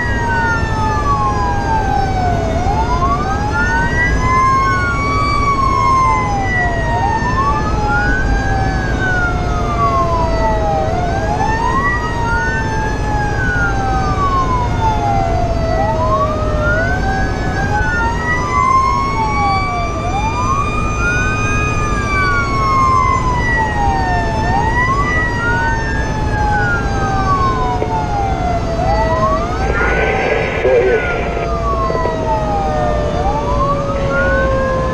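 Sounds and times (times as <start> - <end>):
engine and road rumble: 0.0 - 34.9
fire engine sirens wailing: 0.0 - 34.9.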